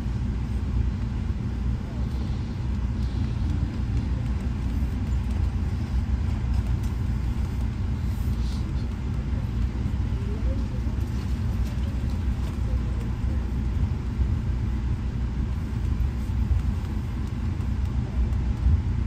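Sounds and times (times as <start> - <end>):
passenger train car rumbling: 0.0 - 19.0.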